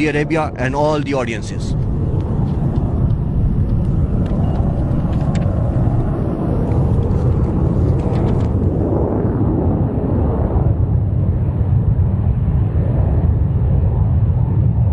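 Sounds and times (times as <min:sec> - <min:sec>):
fighter jet rumble: 0:00.0 - 0:14.9.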